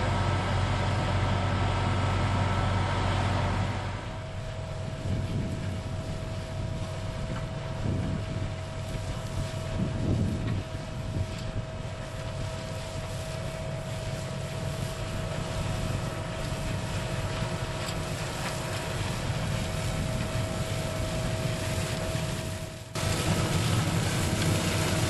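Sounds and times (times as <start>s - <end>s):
high machine whine: 0.0s - 25.0s
low machine rumble: 0.0s - 25.0s.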